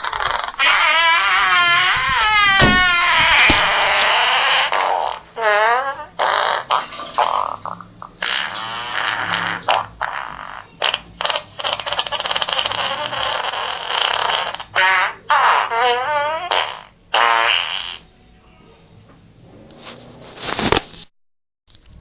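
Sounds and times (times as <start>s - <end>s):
farting: 0.0s - 18.1s.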